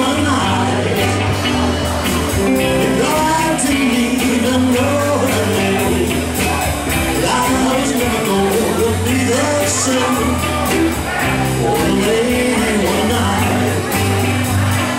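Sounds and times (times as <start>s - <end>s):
live rock band playing: 0.0s - 14.9s
steady drum beat: 0.0s - 14.9s.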